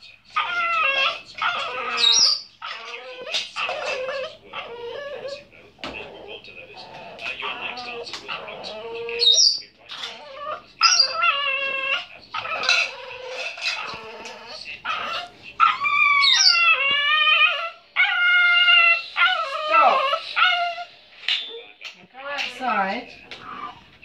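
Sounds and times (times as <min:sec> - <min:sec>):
dog whining and howling: 0:00.3 - 0:20.9, 0:23.4 - 0:23.9
dog squeaking: 0:00.3 - 0:23.9.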